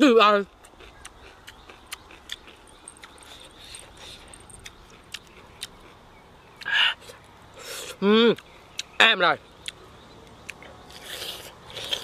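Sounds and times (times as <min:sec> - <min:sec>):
chewing crispy fried chicken: 0:00.3 - 0:09.0, 0:09.6 - 0:12.0.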